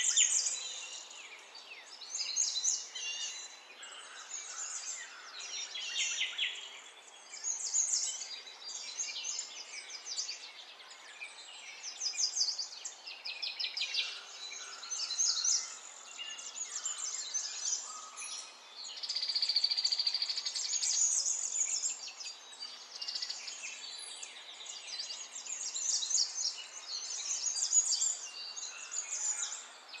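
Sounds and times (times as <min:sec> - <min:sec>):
birds chirping and singing: 0:00.0 - 0:30.0.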